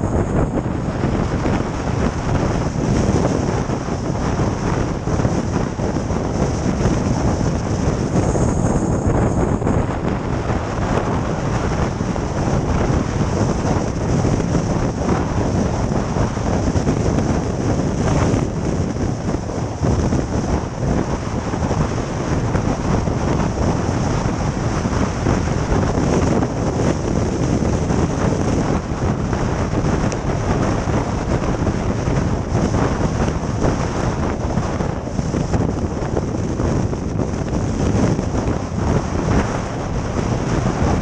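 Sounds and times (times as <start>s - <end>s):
strong wind: 0.0s - 41.0s.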